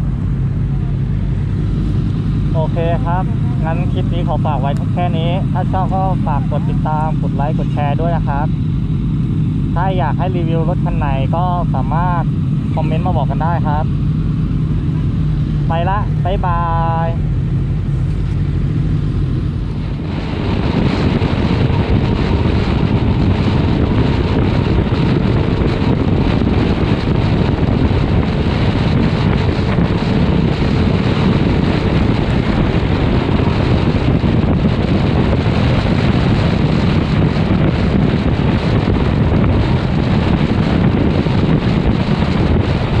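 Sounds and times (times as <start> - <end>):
wind rush on microphone: 0.0 - 43.0.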